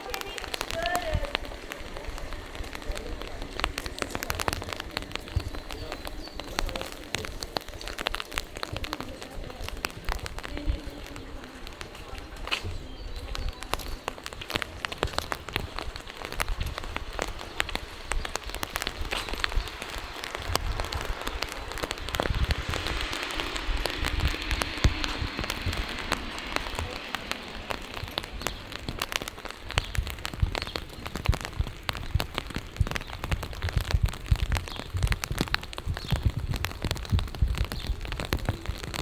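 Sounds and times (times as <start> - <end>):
low rumble: 0.0 - 39.0
rain drops tapping: 0.0 - 39.0
steady rain falling: 0.0 - 39.0.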